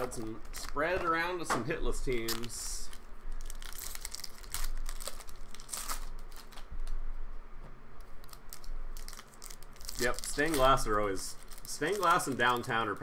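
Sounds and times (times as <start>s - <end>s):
trading cards clicking and rustling: 0.0s - 7.0s, 8.0s - 13.0s.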